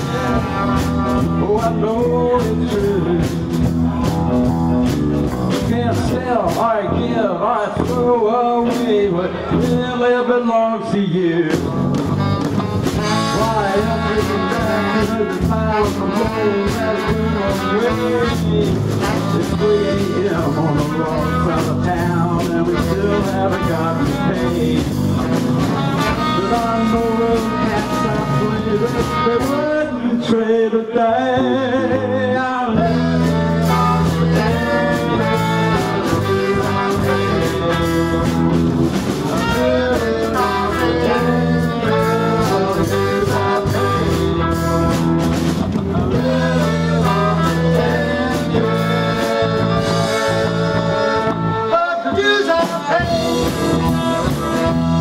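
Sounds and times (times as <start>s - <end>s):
brass horns playing: 0.0s - 6.2s, 12.0s - 30.1s, 32.8s - 55.0s
live blues band playing: 0.0s - 55.0s.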